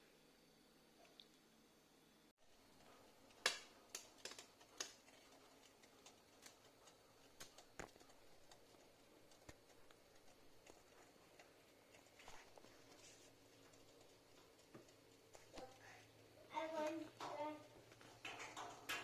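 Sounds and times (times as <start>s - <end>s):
faint clicks and taps: 2.6s - 19.0s.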